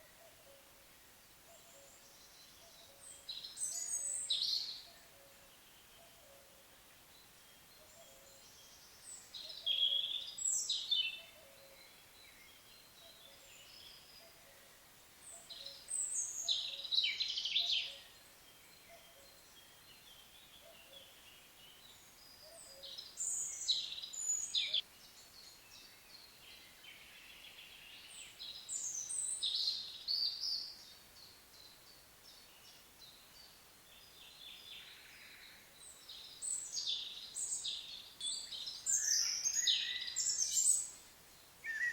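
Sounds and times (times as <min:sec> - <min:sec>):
faint steady background noise: 0:00.0 - 0:41.9
songbird singing: 0:00.0 - 0:41.9.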